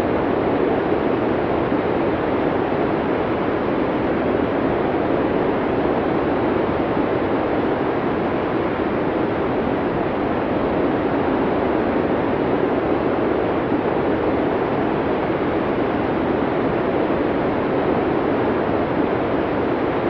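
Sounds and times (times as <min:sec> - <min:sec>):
muffled blizzard wind rushing: 0:00.0 - 0:20.0.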